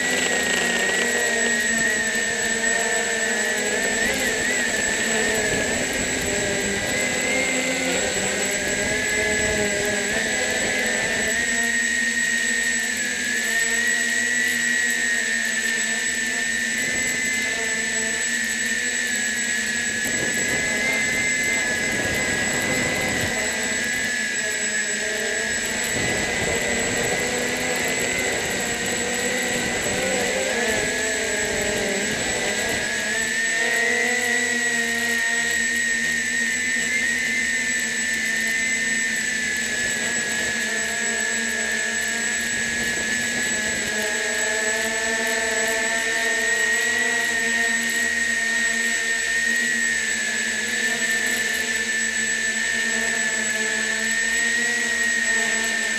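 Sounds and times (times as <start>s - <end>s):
drone propellers whining: 0.0s - 55.9s.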